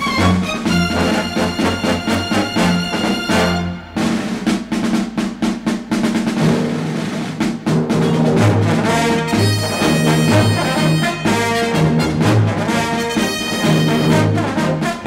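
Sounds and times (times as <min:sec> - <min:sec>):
held brass notes: 0:00.0 - 0:04.5, 0:06.4 - 0:15.0
rapid snare drum strokes: 0:00.0 - 0:15.0.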